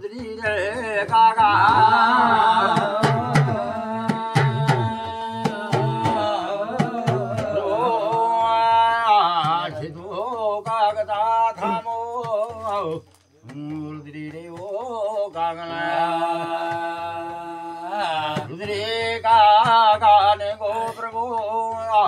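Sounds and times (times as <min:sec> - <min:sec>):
man singing a chant: 0:00.0 - 0:22.0.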